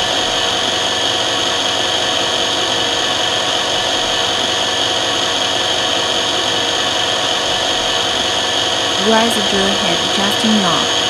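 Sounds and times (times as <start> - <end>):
milling machine high whine: 0.0 - 11.0.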